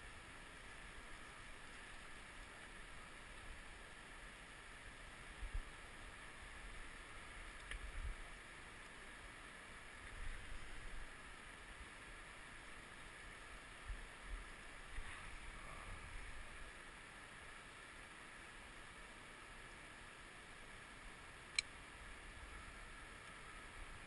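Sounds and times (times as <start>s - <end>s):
flowing river: 0.0s - 24.0s
wind: 0.0s - 24.0s.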